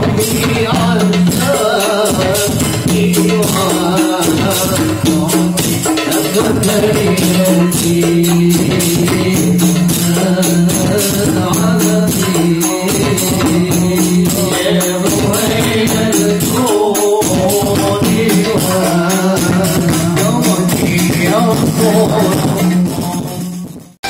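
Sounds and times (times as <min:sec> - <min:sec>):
vocals singing long notes: 0:00.0 - 0:23.8
frame drums struck by hand: 0:00.0 - 0:24.0.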